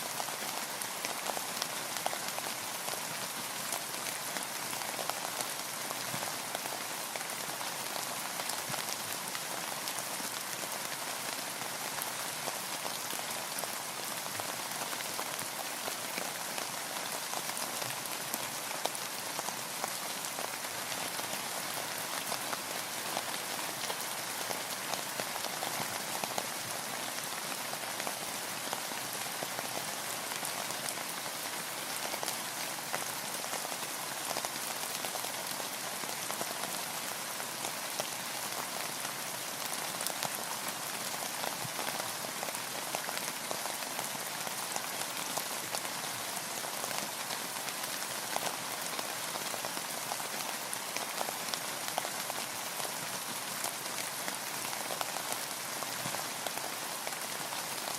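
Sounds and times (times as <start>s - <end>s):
rain falling on a boat: 0.0s - 57.9s.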